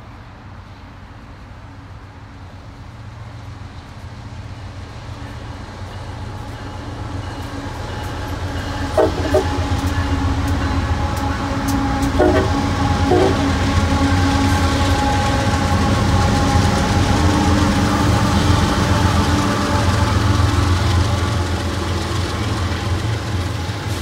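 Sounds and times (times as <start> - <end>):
diesel locomotive engines droning: 0.0 - 24.0.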